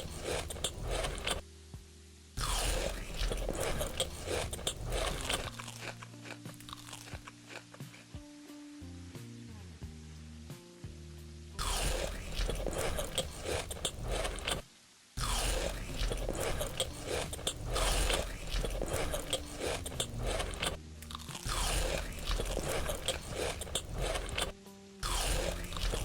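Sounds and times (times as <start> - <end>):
crunching and chewing crisp food: 0.0 - 1.5, 2.4 - 8.2, 11.6 - 26.0.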